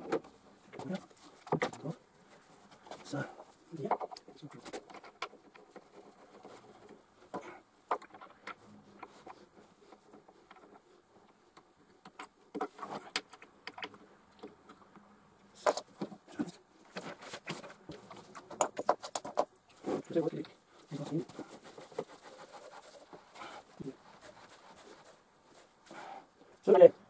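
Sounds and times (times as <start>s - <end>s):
hands handling cat scratching tree: 0.0s - 26.9s.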